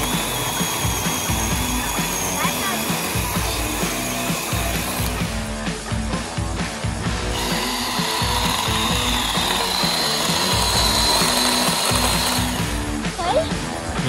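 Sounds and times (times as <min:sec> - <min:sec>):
electric chainsaw whining: 0:00.0 - 0:13.1.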